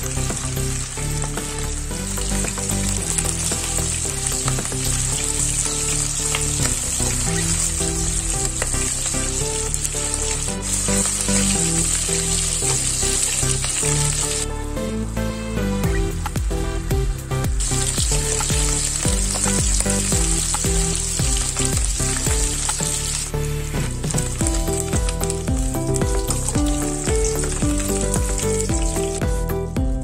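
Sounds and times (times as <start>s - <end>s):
meat sizzling in hot oil: 0.0s - 14.5s, 17.6s - 29.2s.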